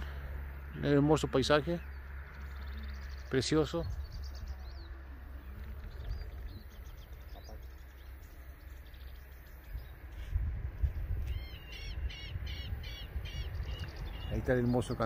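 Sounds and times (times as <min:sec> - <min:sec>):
harsh repeated bird calls: 0:00.0 - 0:15.0
faint bird chirps: 0:01.7 - 0:15.0
wind rumble on microphone: 0:01.9 - 0:15.0.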